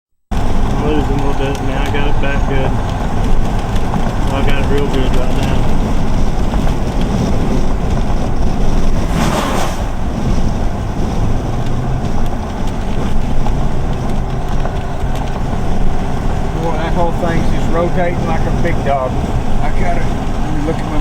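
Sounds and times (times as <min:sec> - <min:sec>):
steady low rumble: 0:00.3 - 0:21.0
wind buffeting microphone: 0:00.3 - 0:21.0.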